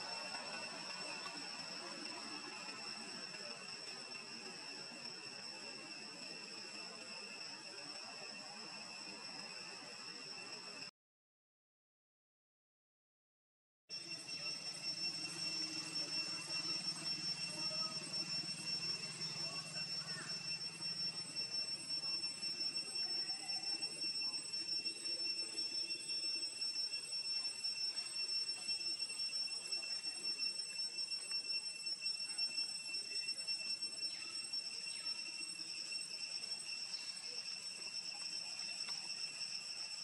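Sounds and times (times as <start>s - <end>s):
high-pitched insect drone: 0.0s - 10.9s, 13.9s - 40.0s.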